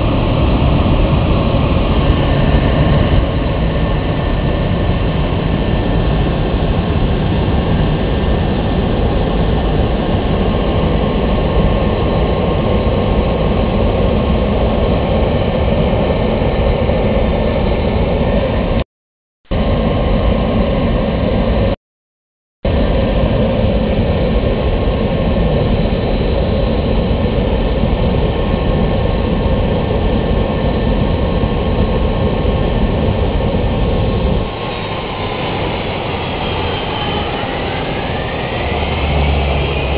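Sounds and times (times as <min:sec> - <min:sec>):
high engine whine: 0:00.0 - 0:18.8, 0:19.5 - 0:21.8, 0:22.7 - 0:39.9
jet engines rumbling: 0:00.0 - 0:18.8, 0:19.5 - 0:21.8, 0:22.7 - 0:39.9.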